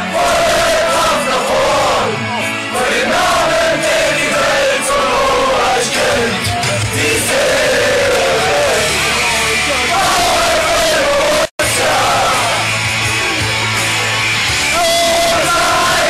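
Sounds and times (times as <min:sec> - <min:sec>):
crowd singing and shouting: 0:00.0 - 0:16.0.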